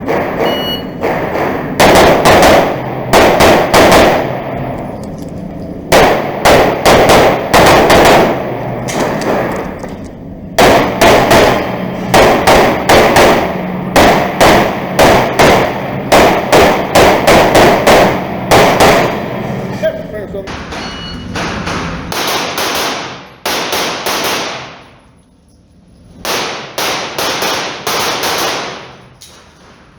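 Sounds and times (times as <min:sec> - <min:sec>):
pistol firing rapid shots: 0:00.0 - 0:05.2, 0:05.8 - 0:19.6, 0:20.5 - 0:24.9, 0:26.2 - 0:29.8.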